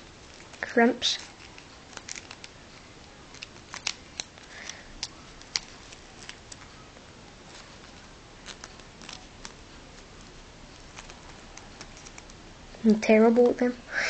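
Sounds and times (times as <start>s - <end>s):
paper folding crackles: 0.0s - 13.6s.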